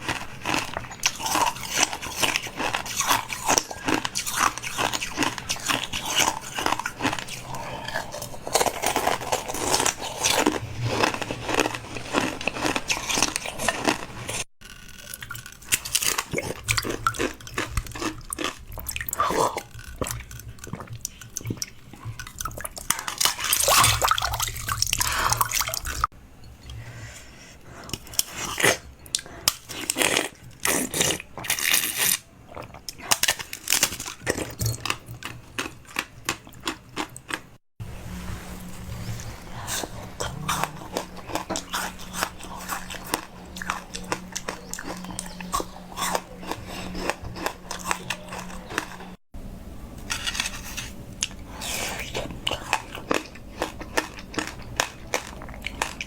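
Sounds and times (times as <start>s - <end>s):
chewing and crunching food: 0.0s - 37.6s, 38.7s - 49.2s, 50.1s - 56.0s.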